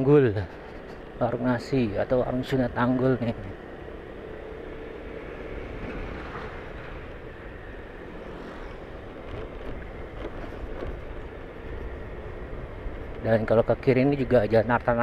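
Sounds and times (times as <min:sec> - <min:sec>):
vehicle driving on rough road: 0:00.0 - 0:15.0
wind buffeting microphone: 0:00.0 - 0:15.0.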